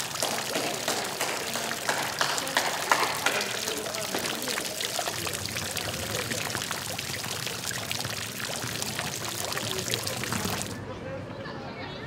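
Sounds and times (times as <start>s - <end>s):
fountain water splashing: 0.0s - 10.8s
voices talking: 0.0s - 12.0s.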